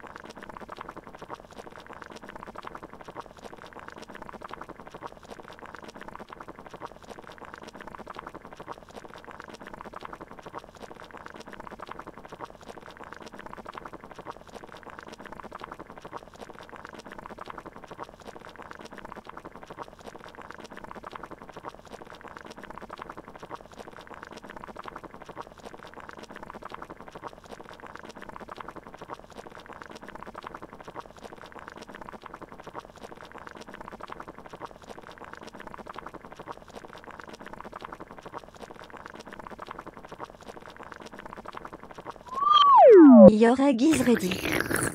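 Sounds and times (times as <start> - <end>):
water boiling in a pot: 0.0 - 42.3.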